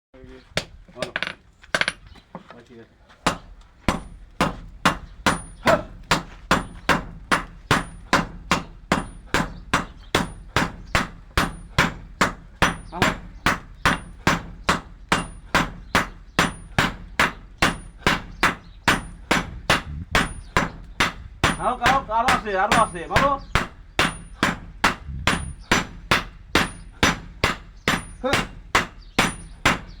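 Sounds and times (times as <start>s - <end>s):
hammer striking metal: 3.3s - 30.0s.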